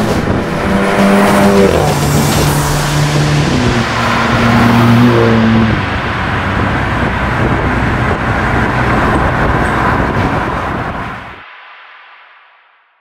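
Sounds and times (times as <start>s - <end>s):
car engine: 0.0s - 11.4s
road noise: 0.0s - 12.3s.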